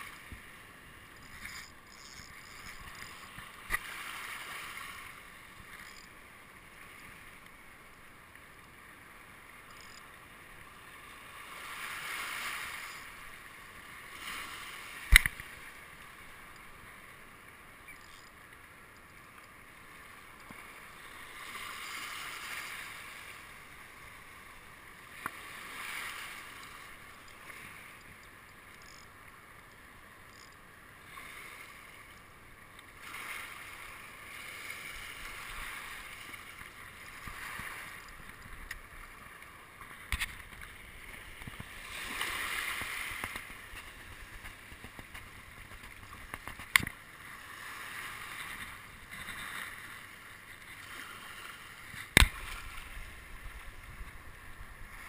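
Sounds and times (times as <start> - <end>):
small waves washing: 0.0 - 55.0.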